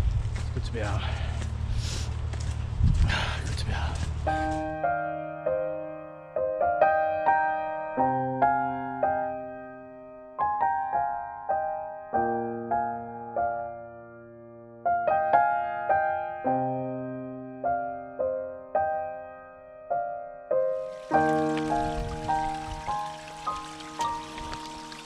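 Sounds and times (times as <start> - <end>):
slow gentle solo piano: 4.3 - 25.0.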